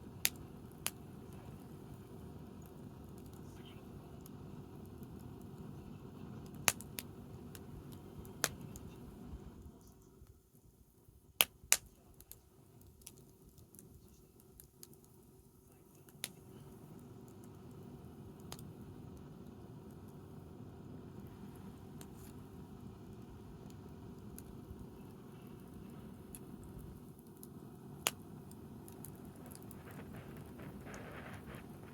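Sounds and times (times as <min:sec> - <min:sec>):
burning wood popping: 0:00.0 - 0:09.8, 0:11.4 - 0:31.9
low steady rumble: 0:00.0 - 0:10.4, 0:12.0 - 0:31.9
wood fire crackling: 0:00.0 - 0:31.9.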